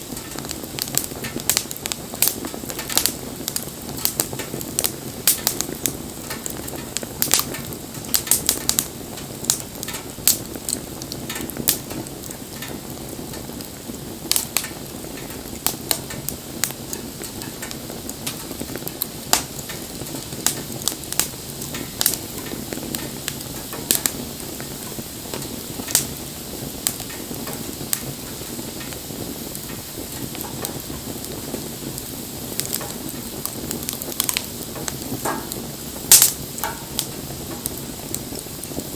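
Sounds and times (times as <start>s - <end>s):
campfire burning with crackles: 0.0s - 38.9s.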